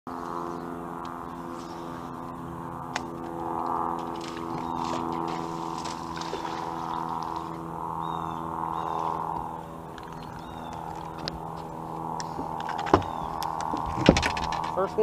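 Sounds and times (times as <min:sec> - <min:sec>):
electric trolling motor humming: 0:00.1 - 0:15.0.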